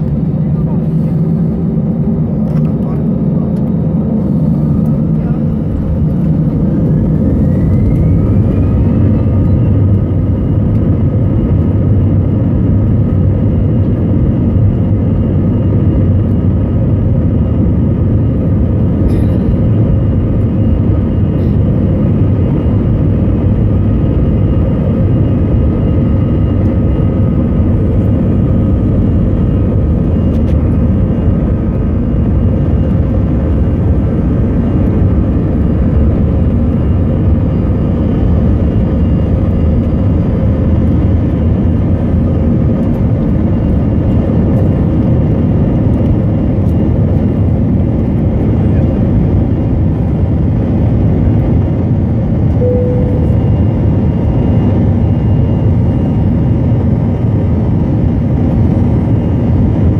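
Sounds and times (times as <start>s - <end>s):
jet engine whine rising: 0.0s - 59.9s
jet engines roaring: 0.0s - 59.9s.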